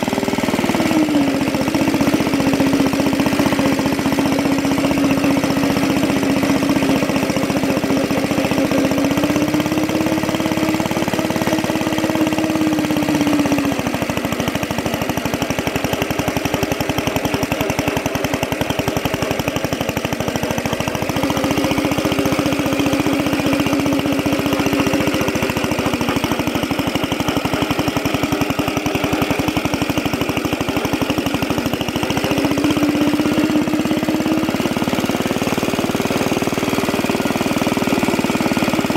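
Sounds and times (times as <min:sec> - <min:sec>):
small gas engine running: 0:00.0 - 0:38.9.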